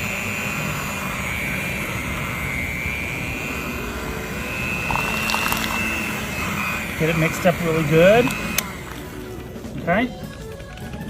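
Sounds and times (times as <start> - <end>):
electric mixer whine: 0.0 - 10.0.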